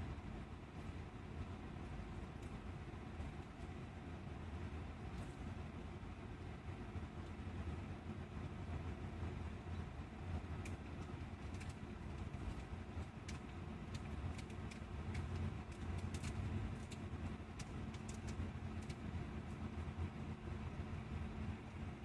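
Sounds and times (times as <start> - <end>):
coach engine and road rumble: 0.0 - 22.0.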